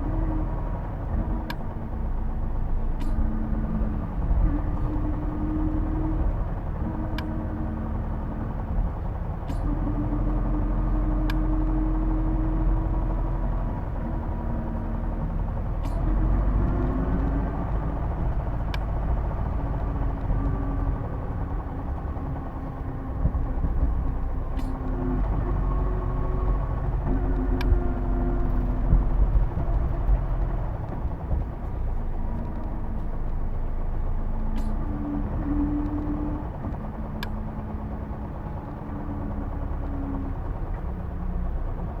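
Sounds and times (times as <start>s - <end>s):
bus diesel engine rumble: 0.0s - 42.0s
humming drivetrain whine: 0.0s - 42.0s.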